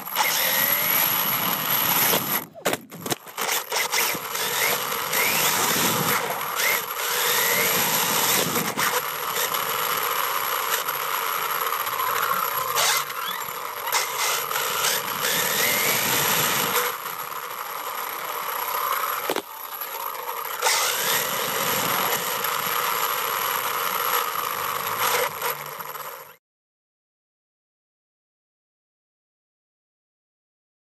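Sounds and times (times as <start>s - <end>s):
electric motor and gears whining: 0.0s - 26.4s.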